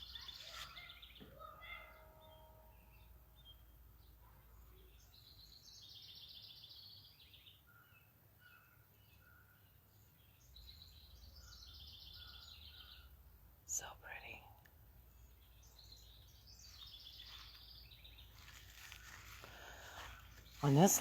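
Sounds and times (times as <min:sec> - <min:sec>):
songbird singing faintly: 0:00.0 - 0:21.0.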